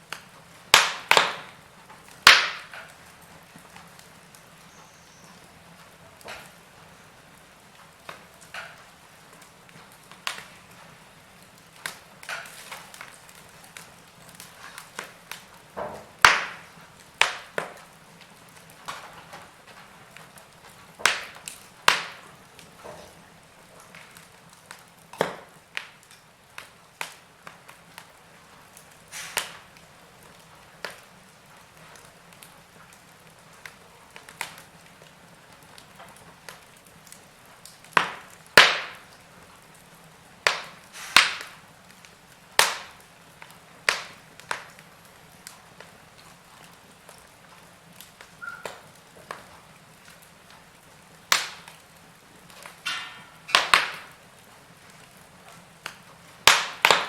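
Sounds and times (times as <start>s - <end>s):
burning logs crackling: 0.0s - 57.0s.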